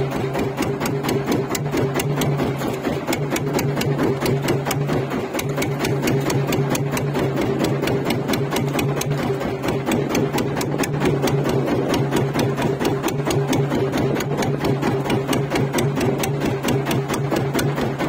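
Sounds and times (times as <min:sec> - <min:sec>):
small boat engine clattering: 0:00.0 - 0:18.0.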